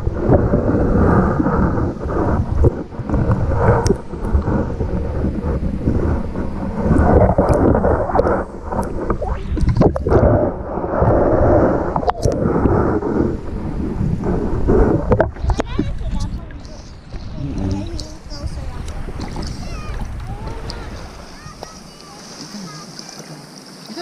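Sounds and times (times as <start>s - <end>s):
muffled underwater churning: 0.0s - 24.0s.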